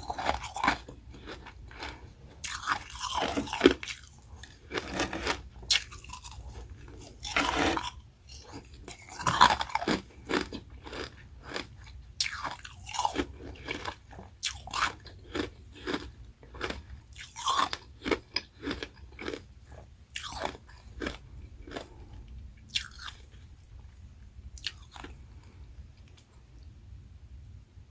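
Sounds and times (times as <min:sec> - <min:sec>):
ice being crunched and chewed: 0:00.0 - 0:23.9, 0:24.6 - 0:25.5.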